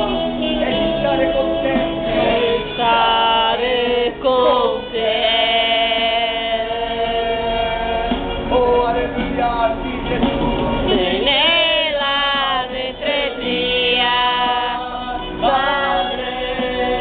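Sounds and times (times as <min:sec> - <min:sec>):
men singing worship song: 0:00.0 - 0:17.0.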